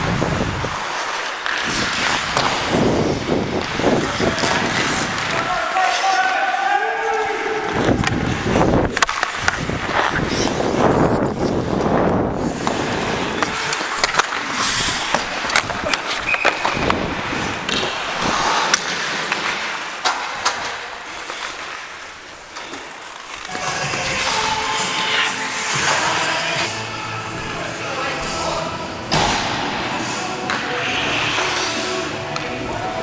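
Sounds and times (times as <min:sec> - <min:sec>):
skate blades scraping ice: 0:00.1 - 0:26.7, 0:29.4 - 0:33.0
hockey sticks and puck clacking: 0:00.6 - 0:26.8, 0:27.6 - 0:33.0.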